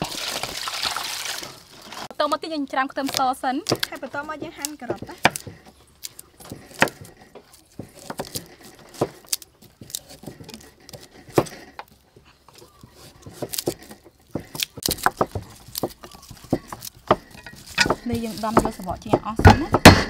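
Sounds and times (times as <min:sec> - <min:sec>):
cleavers chopping on wooden boards: 0:02.9 - 0:20.0.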